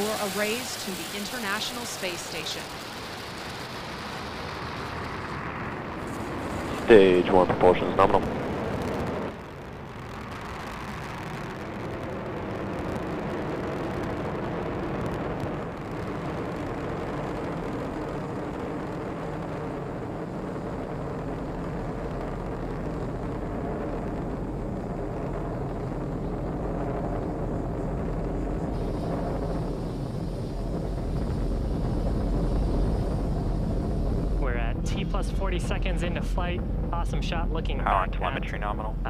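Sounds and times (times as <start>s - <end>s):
rocket engines rumbling: 0.0s - 39.0s.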